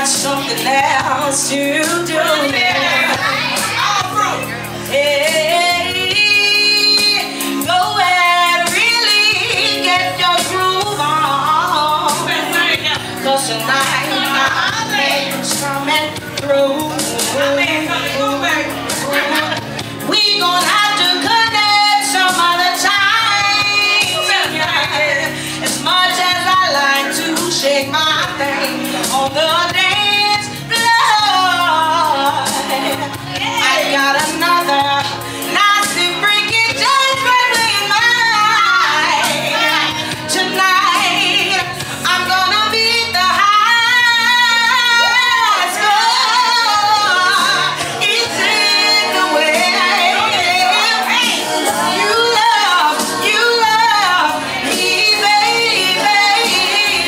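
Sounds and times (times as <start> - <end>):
band backing music: 0.0 - 57.0
woman singing: 0.0 - 57.0.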